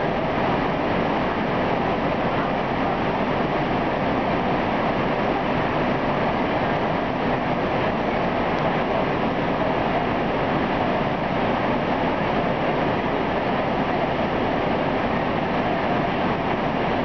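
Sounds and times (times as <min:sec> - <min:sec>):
diesel train rumble and hiss: 0:00.0 - 0:17.0
faint steady whine: 0:00.0 - 0:17.0.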